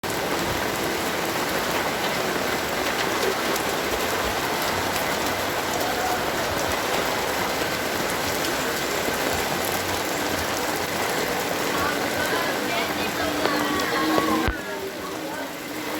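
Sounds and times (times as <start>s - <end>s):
heavy rain falling: 0.0s - 15.9s.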